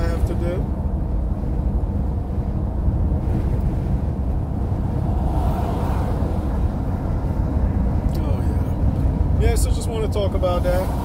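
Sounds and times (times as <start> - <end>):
road noise: 0.0 - 11.0
van engine rumble: 0.0 - 11.0.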